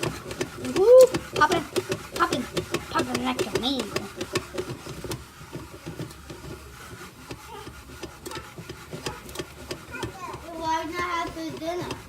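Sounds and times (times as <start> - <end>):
popcorn popping: 0.0 - 12.0.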